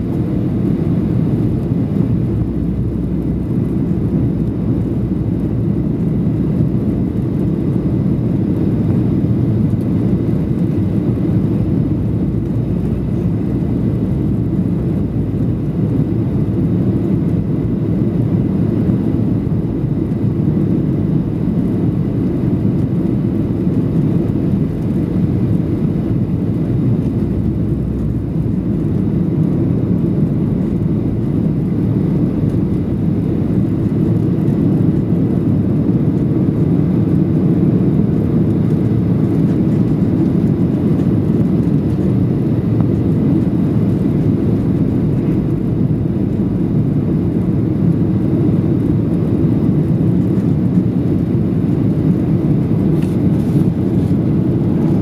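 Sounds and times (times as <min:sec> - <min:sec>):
jet engine drone: 0:00.0 - 0:55.0
rushing airflow: 0:00.0 - 0:55.0.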